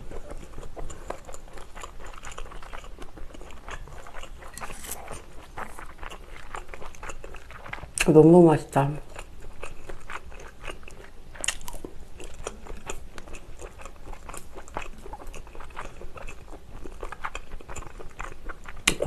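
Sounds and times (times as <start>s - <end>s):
person chewing food: 0.0s - 8.1s, 9.0s - 19.0s.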